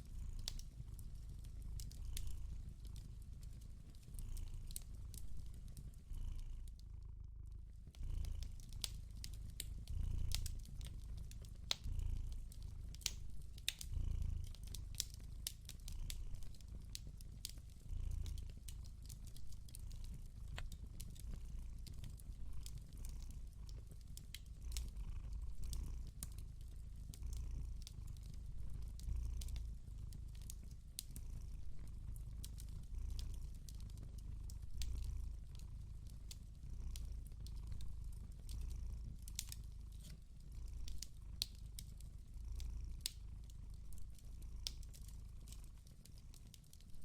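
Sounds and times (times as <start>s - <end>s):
cat purring: 0.0s - 47.0s
fire crackling and popping: 0.0s - 47.0s.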